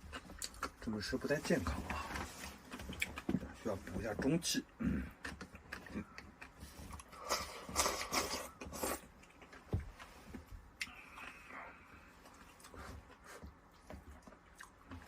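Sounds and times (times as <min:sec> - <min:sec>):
chewing and crunching: 0:00.0 - 0:15.0.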